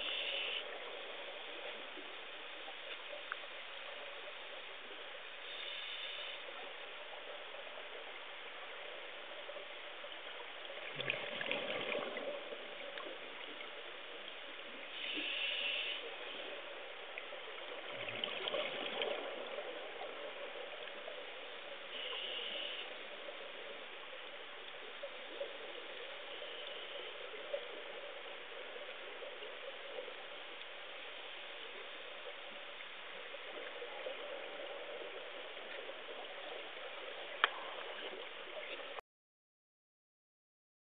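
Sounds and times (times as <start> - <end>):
faint hum: 0.0 - 39.0
muffled underwater wash: 0.0 - 39.0.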